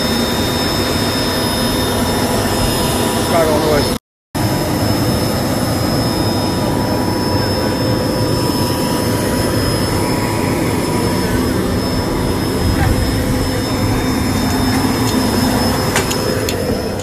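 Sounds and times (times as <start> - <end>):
high whine: 0.0 - 17.0
jet turbines running: 0.0 - 17.0.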